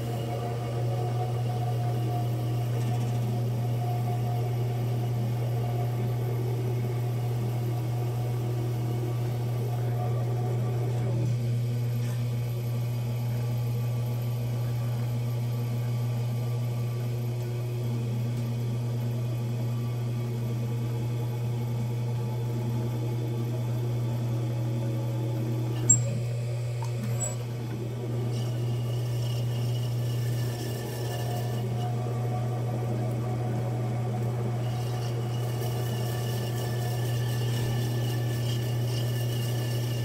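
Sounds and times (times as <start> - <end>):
potter's wheel motor hum: 0.0 - 40.0.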